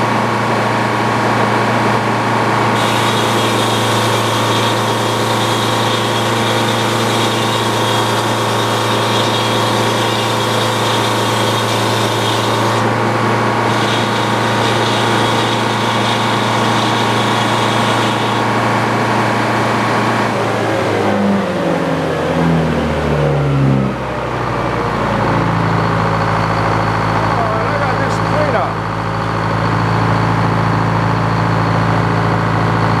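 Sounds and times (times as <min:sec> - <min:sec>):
sawmill engine running: 0:00.0 - 0:22.6, 0:24.3 - 0:33.0.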